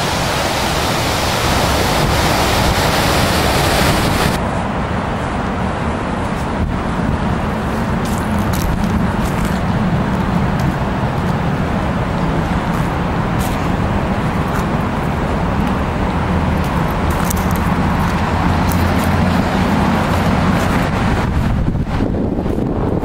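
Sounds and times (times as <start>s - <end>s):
low rumble of city noise: 0.0s - 23.0s.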